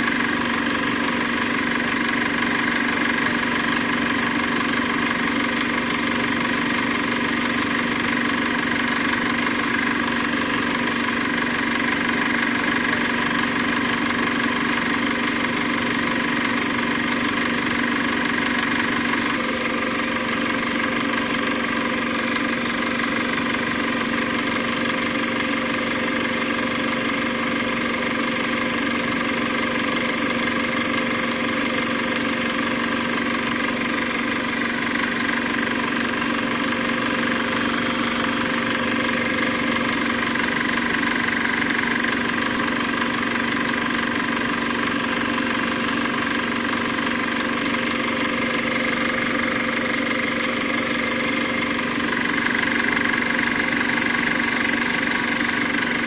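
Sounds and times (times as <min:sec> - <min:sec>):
machine humming and clattering: 0:00.0 - 0:56.0.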